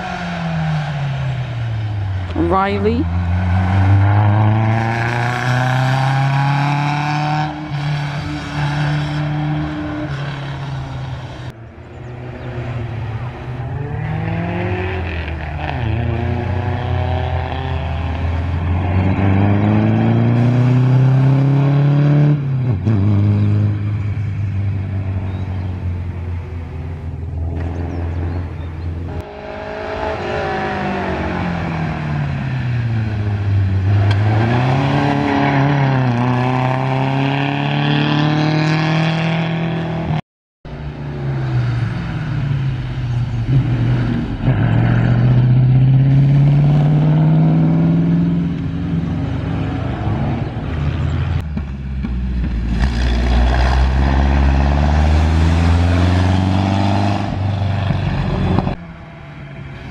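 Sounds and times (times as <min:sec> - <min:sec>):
racing car engines at full throttle: 0:00.0 - 0:59.9.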